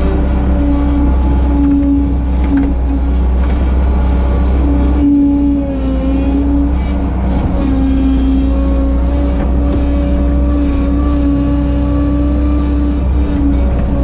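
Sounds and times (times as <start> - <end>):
machine whine: 0.0 - 14.0
skid steer engine running: 0.0 - 14.0.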